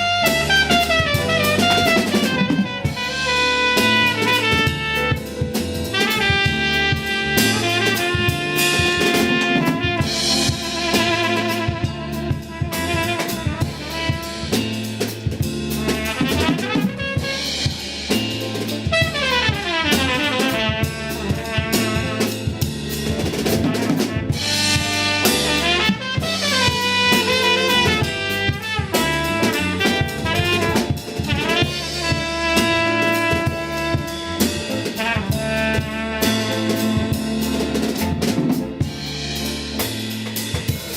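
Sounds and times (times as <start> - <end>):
repeating bass line: 0.0 - 40.7
band music: 0.0 - 40.9
drum kit beat: 0.0 - 40.9
horns playing melody: 0.0 - 40.9.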